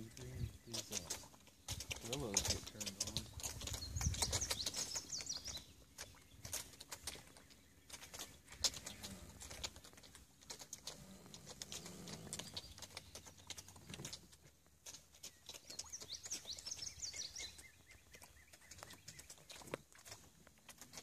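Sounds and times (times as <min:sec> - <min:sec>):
birds chirping: 0:00.0 - 0:21.0
small irregular clicks: 0:00.1 - 0:21.0.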